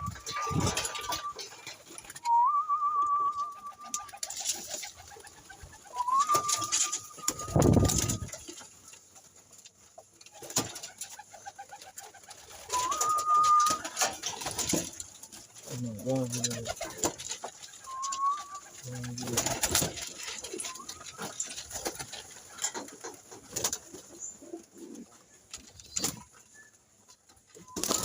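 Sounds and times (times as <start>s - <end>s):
pigeons calling: 0.0s - 8.6s, 10.3s - 26.8s, 27.6s - 28.0s.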